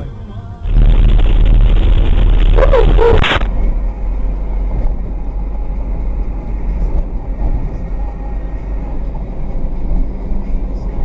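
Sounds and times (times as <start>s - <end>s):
vehicle and road noise: 0.0s - 11.0s.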